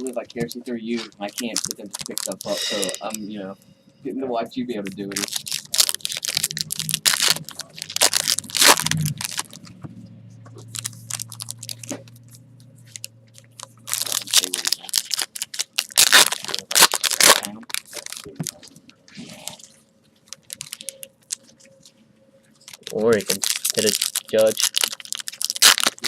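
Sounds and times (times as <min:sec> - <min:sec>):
foil wrappers tearing and crinkling: 0:00.0 - 0:03.2, 0:05.0 - 0:09.7, 0:10.6 - 0:12.2, 0:12.9 - 0:19.7, 0:20.3 - 0:21.6, 0:22.6 - 0:26.0.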